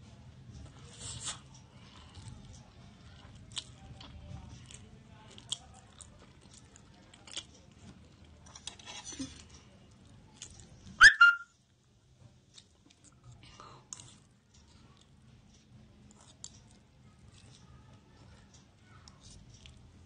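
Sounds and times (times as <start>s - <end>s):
person chewing and smacking lips: 0.6s - 11.0s, 12.4s - 19.9s.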